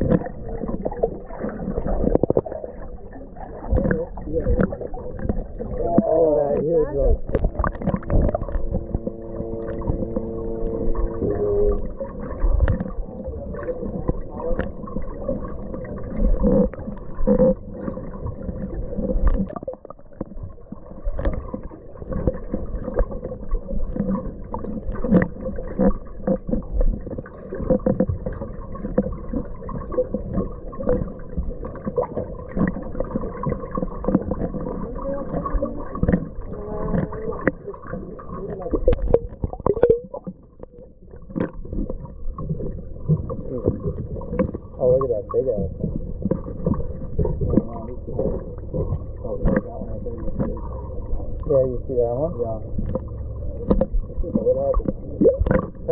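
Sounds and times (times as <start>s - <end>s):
muffled underwater rumble: 0.0s - 55.9s
underwater clicks and knocks: 0.0s - 55.9s.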